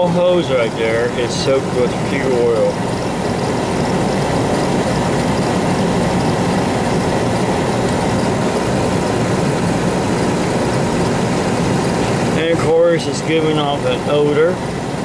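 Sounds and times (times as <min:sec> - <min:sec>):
furnace burner humming: 0:00.0 - 0:15.0.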